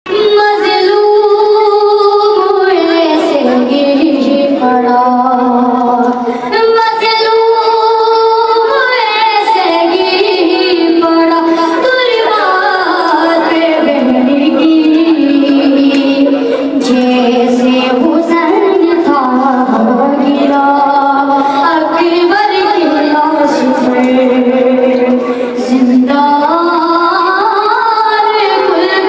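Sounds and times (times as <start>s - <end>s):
boy singing a lament: 0.1s - 29.0s.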